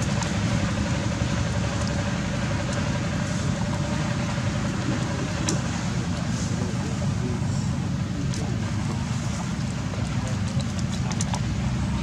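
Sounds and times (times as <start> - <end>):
faint constant hum: 0.0 - 12.0
low rumbling noise: 0.0 - 12.0.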